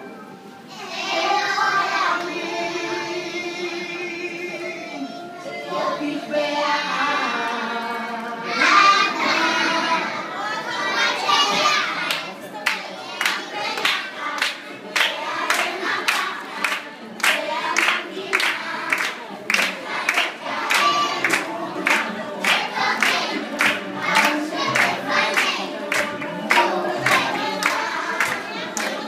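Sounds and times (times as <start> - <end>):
children singing together: 0.6 - 29.0.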